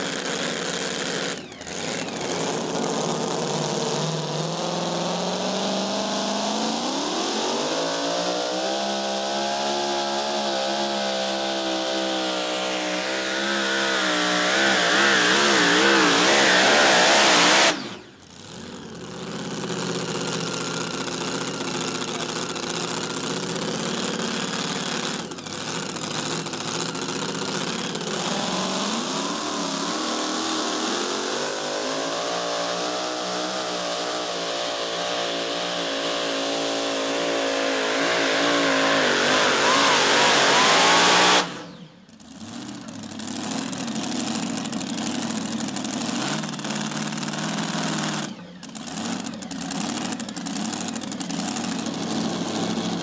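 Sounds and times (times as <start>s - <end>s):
second truck engine: 0.0s - 53.0s
truck engine at full throttle: 0.0s - 53.0s.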